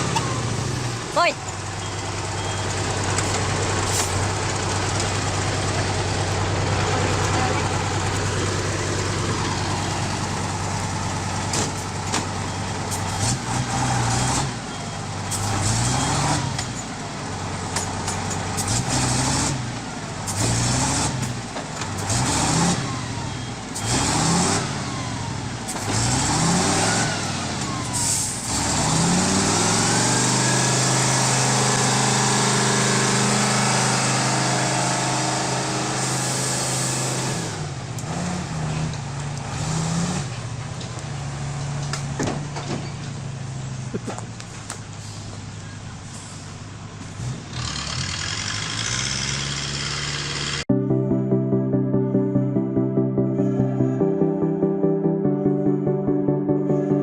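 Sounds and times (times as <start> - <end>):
heavy vehicle engine revving: 0.0 - 42.2, 46.2 - 51.2.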